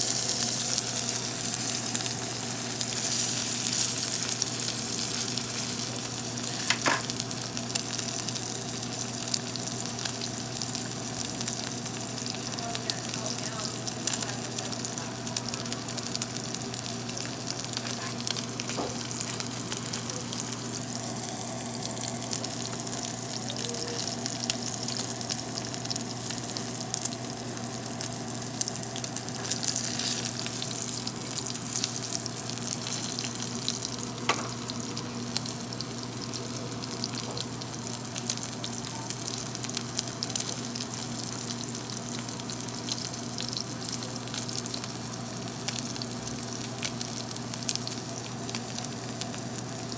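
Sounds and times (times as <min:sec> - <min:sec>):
meat sizzling in a skillet: 0:00.0 - 0:49.9.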